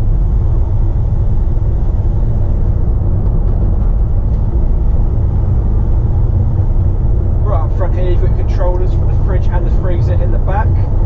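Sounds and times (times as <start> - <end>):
diesel van engine rumble: 0.0 - 11.0
road noise: 0.0 - 11.0.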